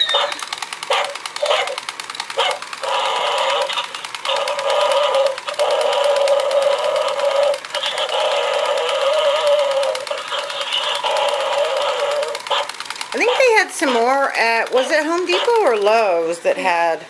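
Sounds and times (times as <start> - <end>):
geared motor clicking: 0.0 - 16.8.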